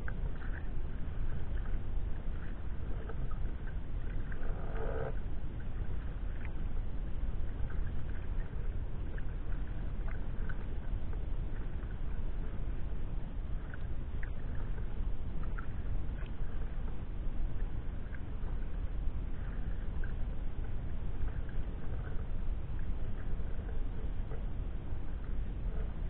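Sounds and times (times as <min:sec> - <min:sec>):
paddle splashes and drips: 0:00.0 - 0:26.0
wind rumbling on microphone: 0:00.0 - 0:26.0.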